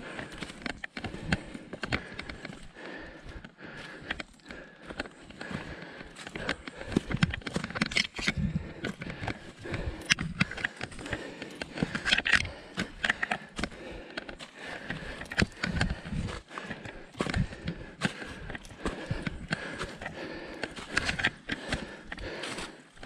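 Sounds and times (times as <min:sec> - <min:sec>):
footsteps scuffing on a trail: 0:00.0 - 0:23.0.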